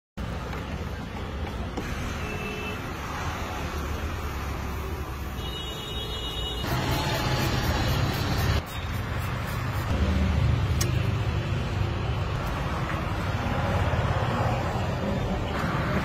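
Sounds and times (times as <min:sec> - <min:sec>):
road traffic rumble: 0:00.2 - 0:16.0.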